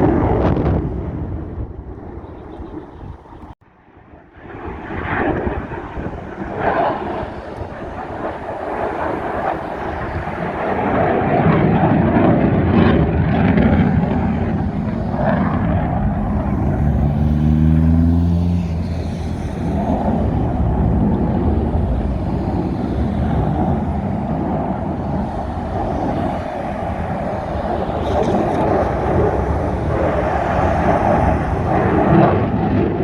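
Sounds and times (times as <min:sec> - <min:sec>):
aircraft flying past: 0:04.3 - 0:33.0.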